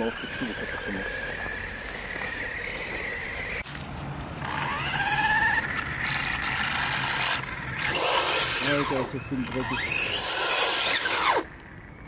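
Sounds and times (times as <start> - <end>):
rc car motor whining: 0.0 - 3.7, 4.4 - 12.0.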